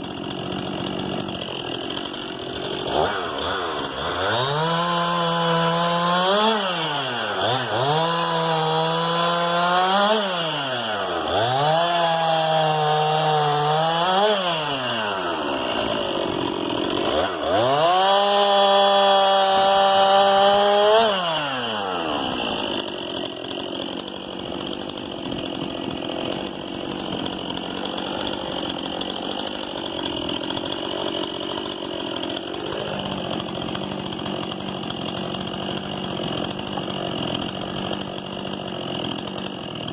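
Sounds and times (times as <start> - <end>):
chainsaw idling: 0.0 - 39.9
chainsaw revving and cutting wood: 0.0 - 39.9.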